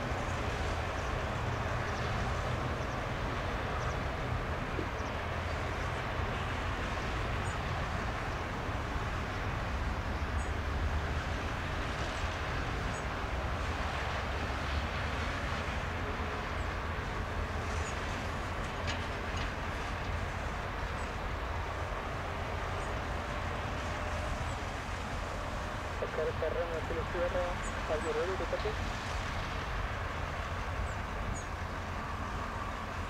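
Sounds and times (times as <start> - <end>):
jet engine rumble: 0.0 - 33.0.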